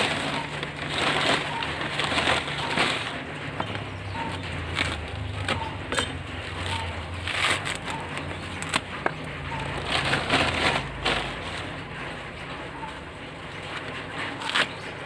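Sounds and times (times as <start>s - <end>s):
coconut husk tearing: 0.0s - 11.9s, 13.7s - 15.0s
plastic bag rustling: 0.0s - 15.0s.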